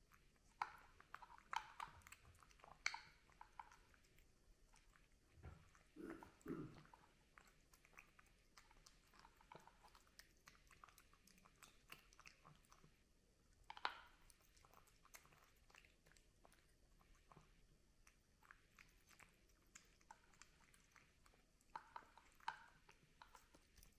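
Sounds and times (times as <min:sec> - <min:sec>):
cat chewing and crunching food: 0:00.0 - 0:23.9.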